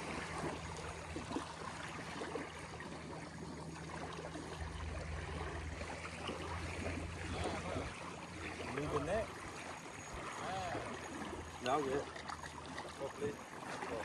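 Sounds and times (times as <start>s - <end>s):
steady low hum: 0.0s - 14.0s
water lapping and trickling: 0.0s - 14.0s.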